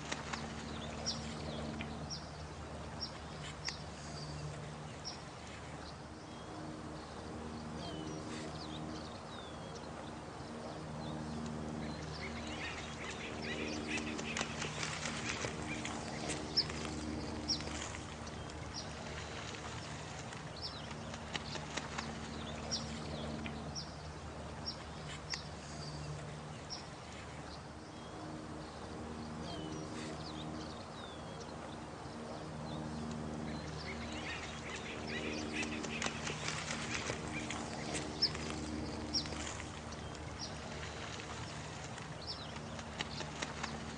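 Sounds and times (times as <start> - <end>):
birds chirping: 0.0 - 43.9
low steady hum: 0.0 - 43.9
running water: 0.0 - 43.9.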